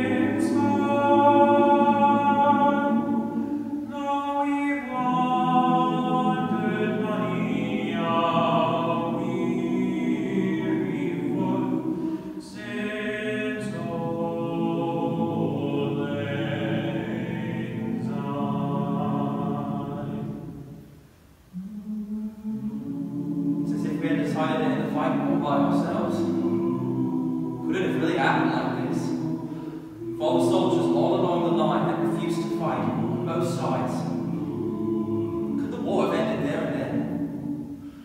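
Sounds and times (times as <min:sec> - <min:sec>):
male choir singing a cappella: 0:00.0 - 0:20.8, 0:21.5 - 0:38.0.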